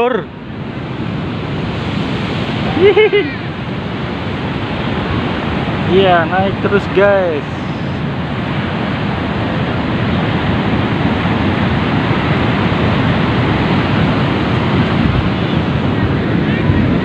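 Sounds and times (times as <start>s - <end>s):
breaking surf: 0.0s - 17.0s
wind buffeting microphone: 0.3s - 17.0s.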